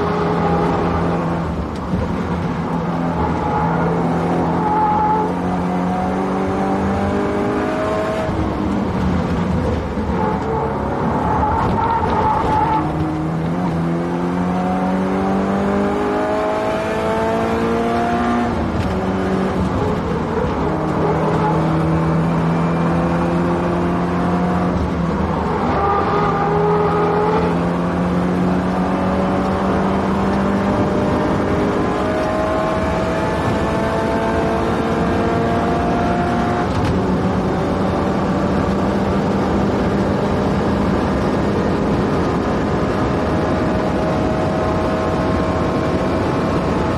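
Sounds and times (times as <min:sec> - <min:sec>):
car engine at full throttle: 0:00.0 - 0:46.9.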